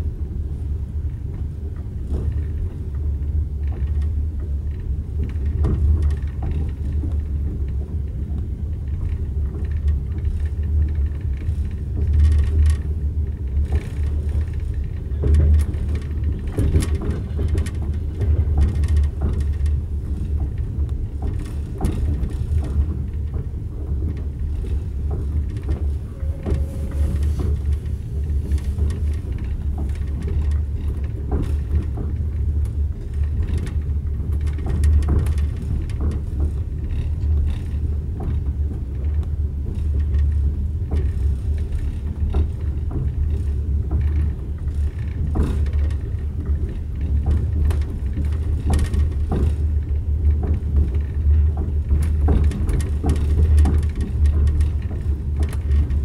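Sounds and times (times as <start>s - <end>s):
train rumble on rails: 0.0s - 56.0s
sharp clicks and knocks: 1.3s - 56.0s.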